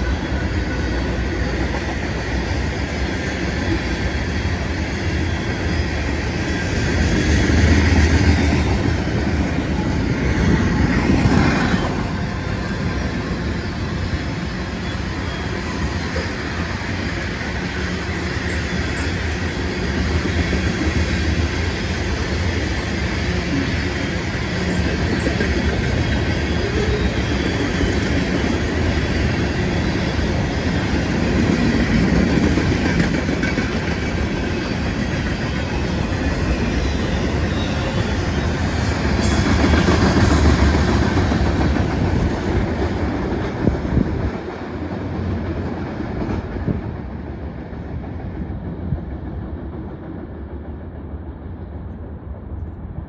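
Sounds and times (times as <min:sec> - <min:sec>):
train rolling over rails: 0:00.0 - 0:53.0.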